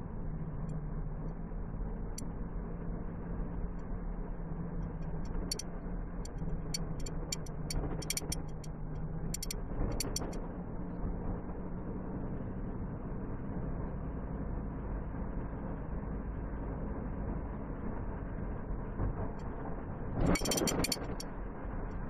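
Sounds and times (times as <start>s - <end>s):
low engine hum: 0.0s - 22.0s
road noise inside vehicle: 0.0s - 22.0s.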